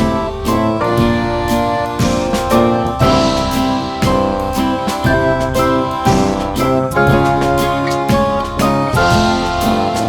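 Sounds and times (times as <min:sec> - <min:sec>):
strummed guitar tune with beat: 0:00.0 - 0:10.0.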